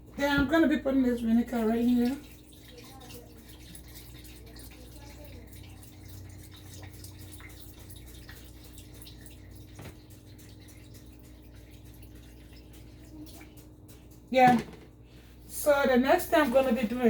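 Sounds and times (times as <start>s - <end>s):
liquid trickling and dripping: 0.0s - 17.0s
steady low hum: 0.0s - 17.0s.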